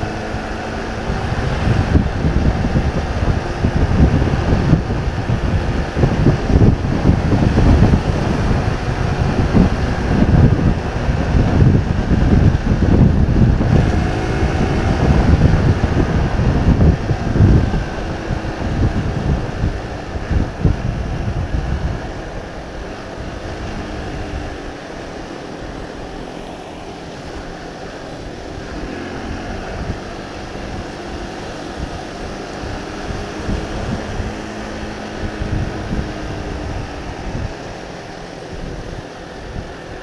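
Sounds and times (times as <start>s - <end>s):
motorcycle engine running: 0.0s - 40.0s
wind buffeting microphone: 0.0s - 40.0s.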